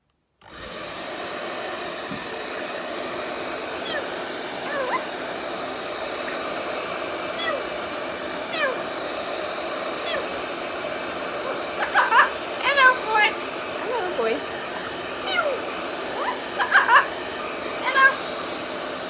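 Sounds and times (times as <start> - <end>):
hairdryer running: 0.4 - 19.0
parrot gliding calls: 3.5 - 19.0.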